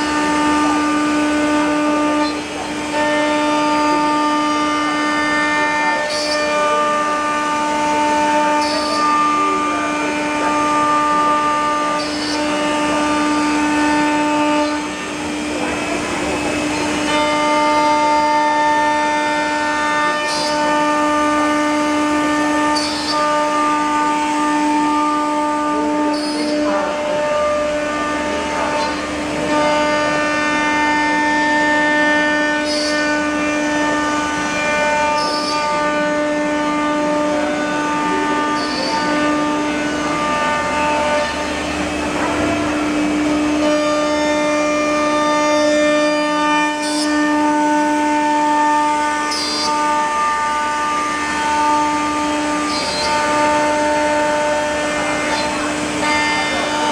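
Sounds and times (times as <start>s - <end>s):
wood router spindle whining: 0.0s - 56.9s.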